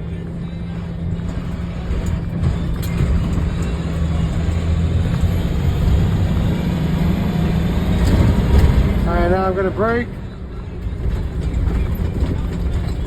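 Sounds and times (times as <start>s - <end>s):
diesel truck engine: 0.0s - 13.0s
road noise: 0.0s - 13.0s.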